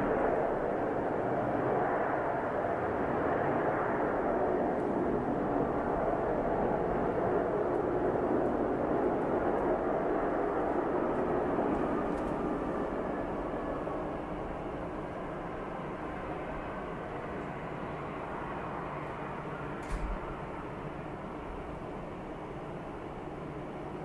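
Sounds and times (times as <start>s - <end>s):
jet airliner engines rumbling: 0.0s - 24.0s.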